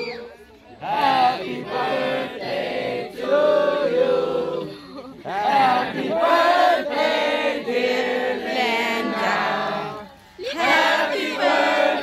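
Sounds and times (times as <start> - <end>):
group singing a birthday song: 0.8 - 12.0.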